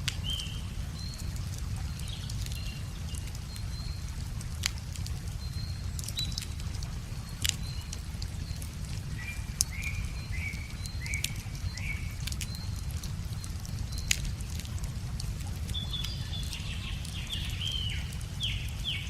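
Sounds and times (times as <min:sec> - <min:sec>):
small birds calling: 0:00.0 - 0:14.7, 0:15.6 - 0:19.0
wood fire crackling and popping: 0:00.0 - 0:17.2.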